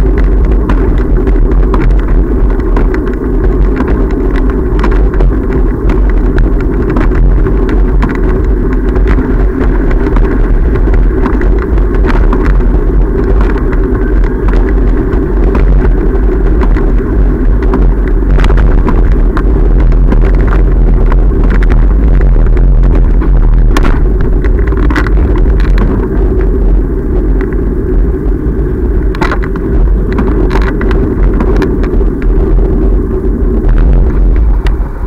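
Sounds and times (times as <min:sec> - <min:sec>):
road traffic passing: 0:00.0 - 0:35.0
wind rumble on microphone: 0:00.0 - 0:35.0.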